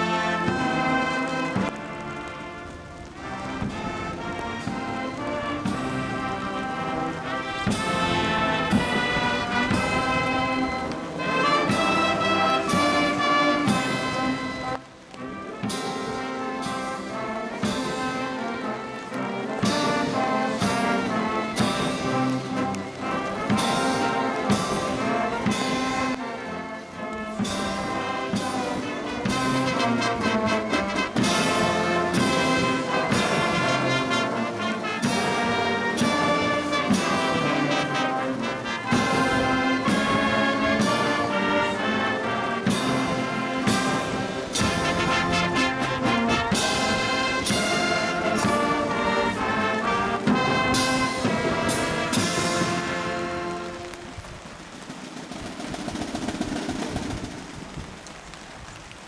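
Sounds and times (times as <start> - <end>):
brass band playing: 0.0 - 58.2.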